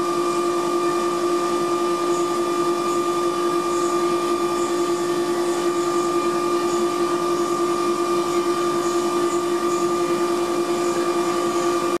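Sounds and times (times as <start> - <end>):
air compressor whine: 0.0 - 12.0.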